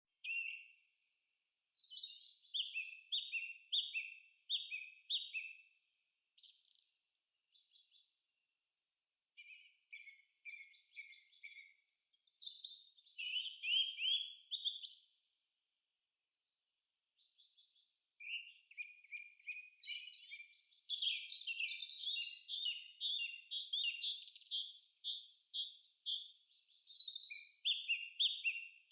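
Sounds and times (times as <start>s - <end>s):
songbird chirping: 0.2s - 15.8s, 16.8s - 28.9s.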